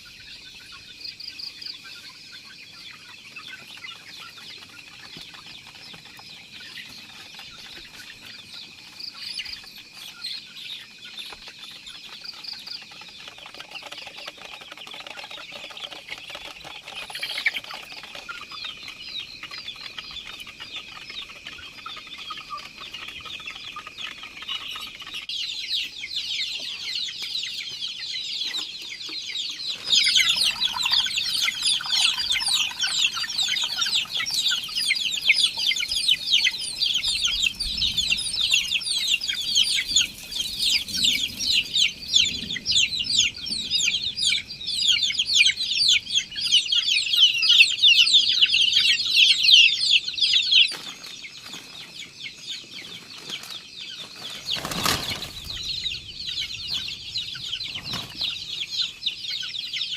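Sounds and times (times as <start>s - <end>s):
chickens clucking and cheeping: 0.0s - 59.9s.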